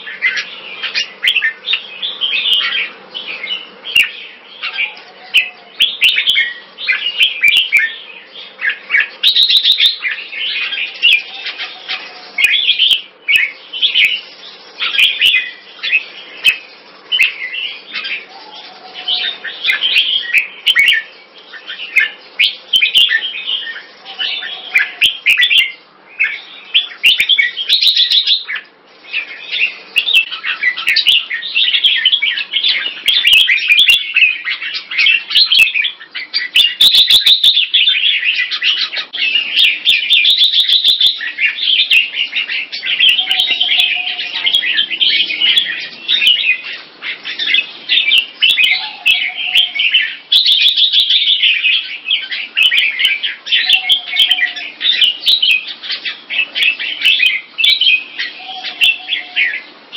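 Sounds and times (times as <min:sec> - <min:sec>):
birds singing and chattering: 0:00.0 - 0:59.9.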